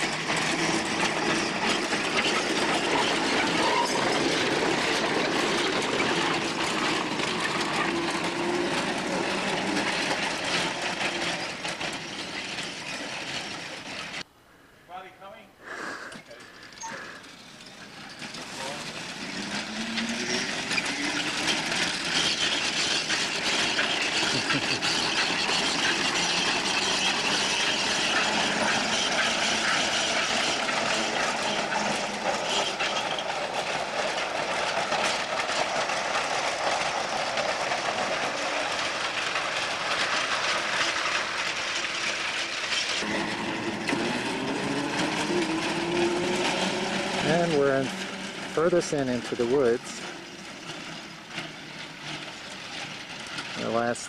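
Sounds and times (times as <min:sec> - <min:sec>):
trolley wheels clattering: 0:00.0 - 0:14.3, 0:16.1 - 0:54.0.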